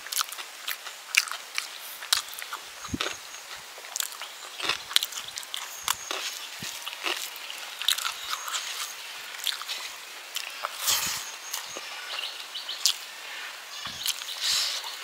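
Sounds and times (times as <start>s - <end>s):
person chewing food wetly: 0.0s - 13.1s, 13.8s - 14.5s.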